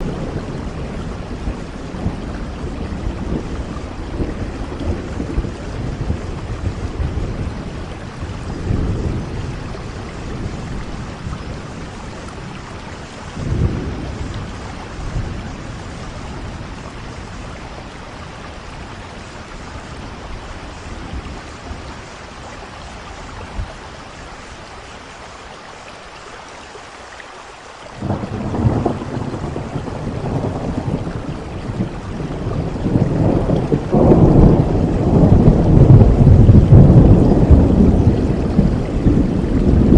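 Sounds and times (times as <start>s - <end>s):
thunder rumbling: 0.0s - 24.7s, 28.0s - 39.9s
steady rain falling: 0.0s - 39.9s.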